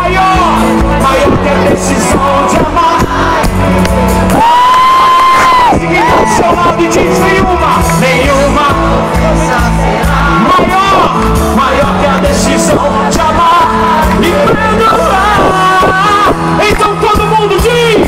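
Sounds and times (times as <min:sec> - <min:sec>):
person singing lead vocal: 0:00.0 - 0:18.0
rock band playing: 0:00.0 - 0:18.0.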